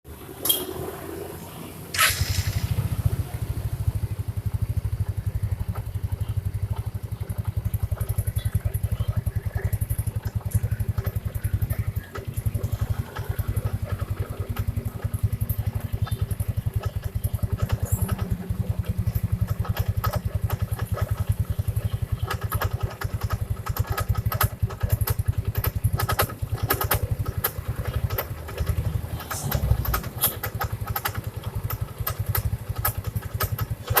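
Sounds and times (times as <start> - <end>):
scooter engine starting and idling: 0.1 - 34.0.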